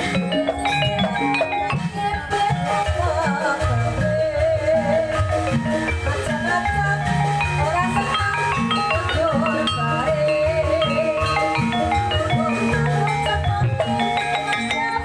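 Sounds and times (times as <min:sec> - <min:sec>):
drum strokes: 0:00.0 - 0:15.0
mallet percussion melody: 0:00.0 - 0:15.0
wavering melody line: 0:00.0 - 0:15.0.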